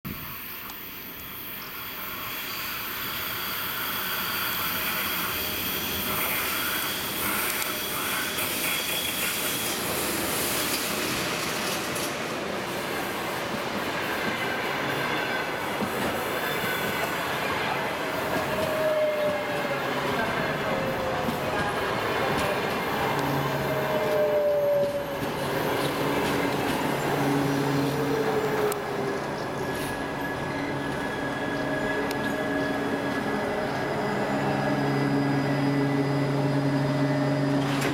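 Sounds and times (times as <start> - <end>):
electric locomotive hissing: 0.1 - 37.9
train wheels on rails: 0.1 - 37.9.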